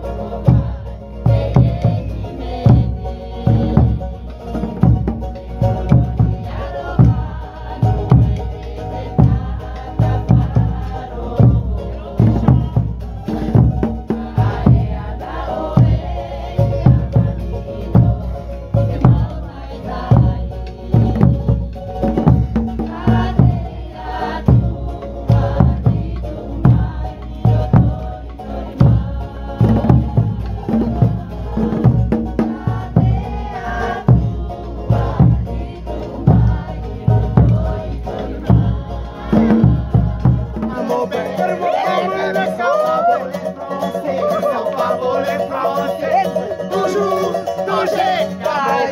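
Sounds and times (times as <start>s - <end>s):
drum and wood-block strikes: 0.0s - 48.9s
group singing: 0.0s - 48.9s.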